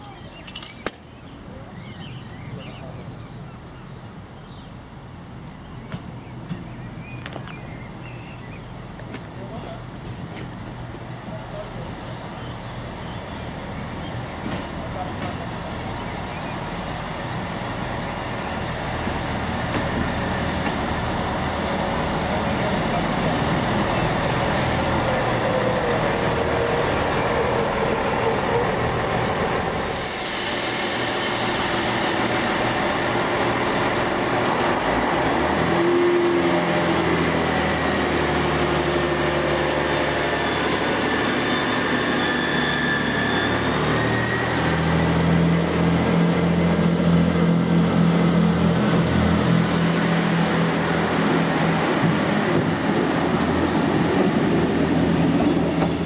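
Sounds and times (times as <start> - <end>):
diesel train engine drone: 0.0 - 56.0.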